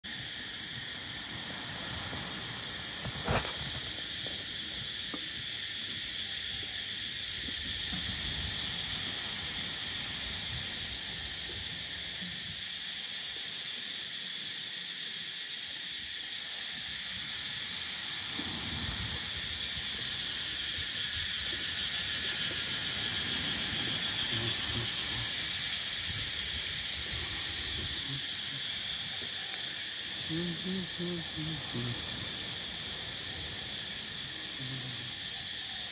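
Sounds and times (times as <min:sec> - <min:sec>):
tropical insects buzzing: 0:00.0 - 0:35.9.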